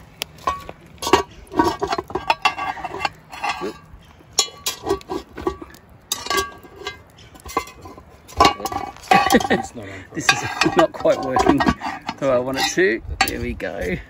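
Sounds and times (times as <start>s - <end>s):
cast-iron pot and lid lifter clanking: 0.1s - 14.0s.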